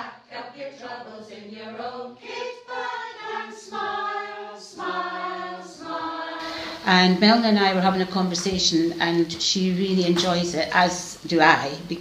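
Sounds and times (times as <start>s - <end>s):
women singing together: 0.0s - 12.0s.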